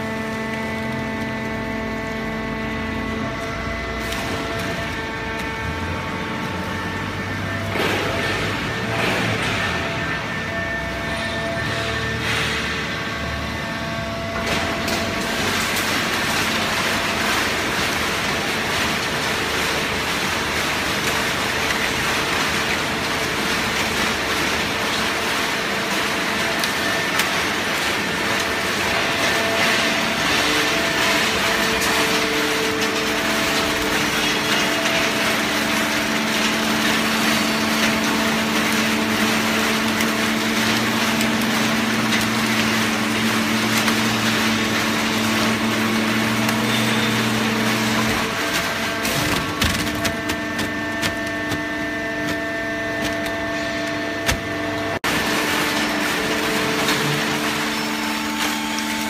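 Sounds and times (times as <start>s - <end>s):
baling press machine din: 0.0s - 59.0s.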